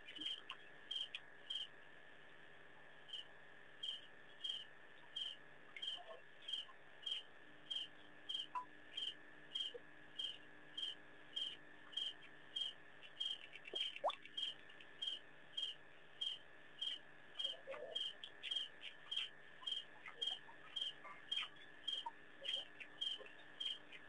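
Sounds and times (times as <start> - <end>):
high insect drone: 0.0 - 1.8, 3.1 - 24.0
cricket chirping: 0.0 - 1.9, 2.9 - 24.0.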